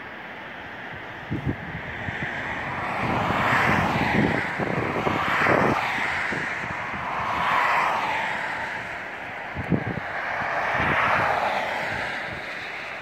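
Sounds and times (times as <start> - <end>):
steady rushing noise: 0.0 - 13.0
wind buffeting microphone: 0.8 - 13.0.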